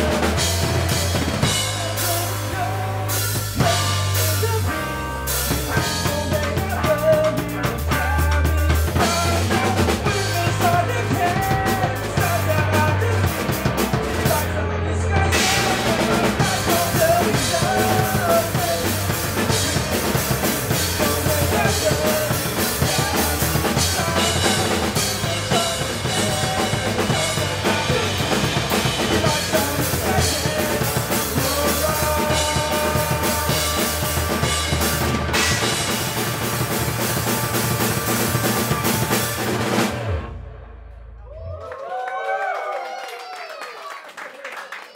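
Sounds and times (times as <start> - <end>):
live rock band playing: 0.0 - 41.2.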